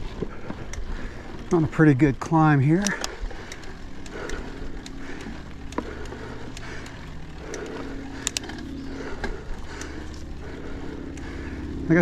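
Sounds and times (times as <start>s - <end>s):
bike ticks and clicks: 0.0s - 12.0s
bike tyres and drivetrain humming: 0.0s - 12.0s.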